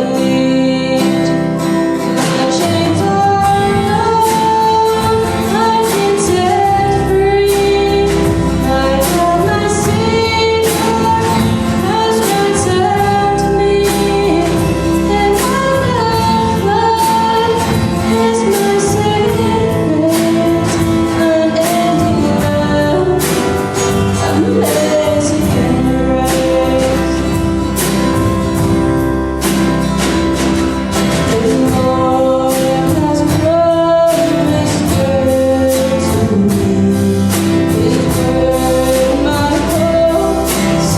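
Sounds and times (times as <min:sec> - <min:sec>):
instrumental accompaniment with beat: 0:00.0 - 0:40.9
woman singing: 0:00.0 - 0:40.9.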